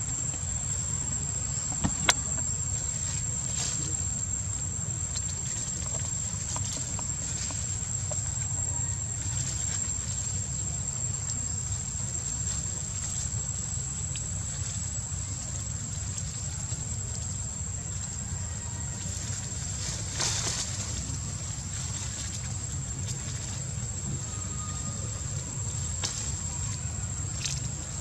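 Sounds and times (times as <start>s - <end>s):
monkey rustling through leaves: 2.7s - 28.0s.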